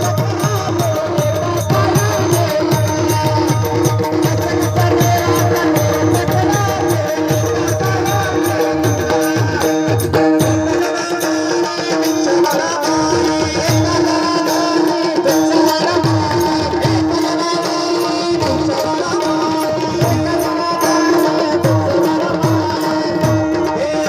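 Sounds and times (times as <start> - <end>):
tabla playing rhythm: 0.0 - 24.0.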